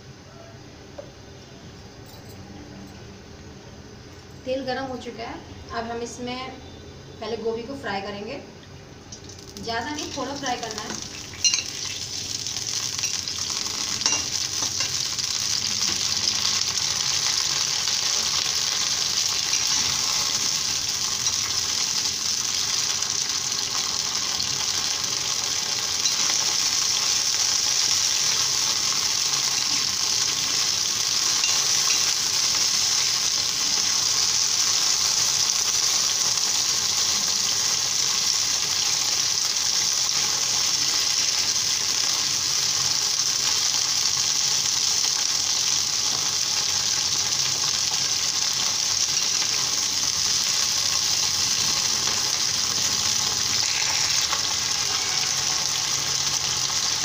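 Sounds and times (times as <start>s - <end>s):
vegetables sizzling in hot oil: 9.0s - 57.0s.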